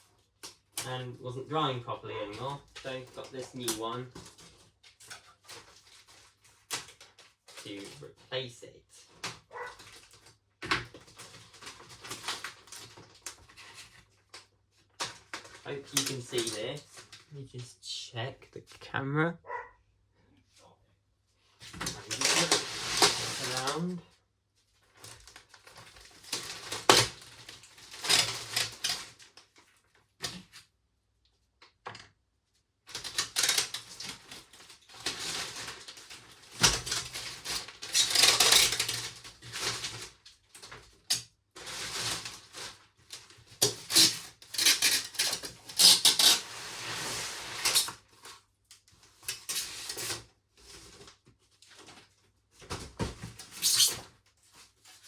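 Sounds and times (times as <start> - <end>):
packaging rustling and scraping: 2.2 - 8.3, 9.0 - 17.4, 21.5 - 24.0, 24.6 - 30.6, 32.9 - 55.0.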